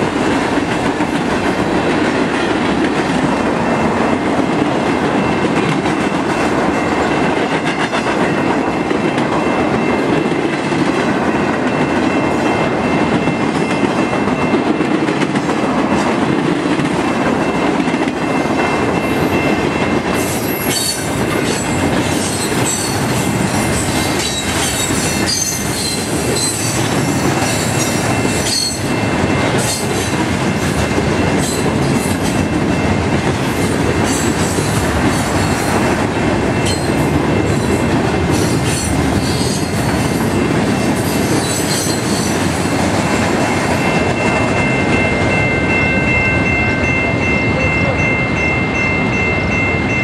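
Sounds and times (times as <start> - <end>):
train wheels clicking and squealing: 0.0 - 46.8
crossing warning bell ringing: 0.0 - 50.0
freight train rumbling past: 0.0 - 50.0.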